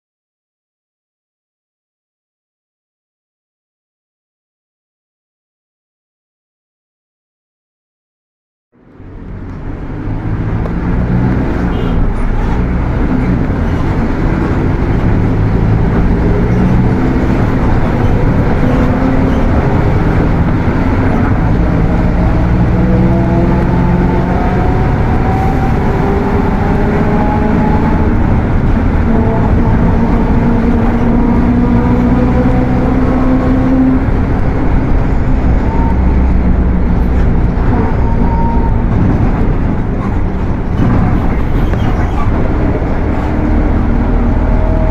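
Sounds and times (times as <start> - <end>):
bus transmission whine: 8.8 - 44.9
diesel engine rumble: 8.8 - 44.9.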